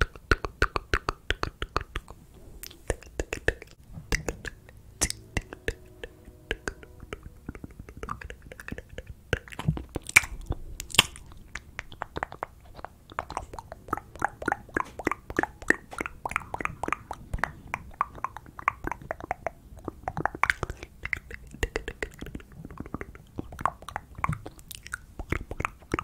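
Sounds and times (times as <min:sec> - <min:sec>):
wet lip and tongue clicks: 0:00.0 - 0:26.0.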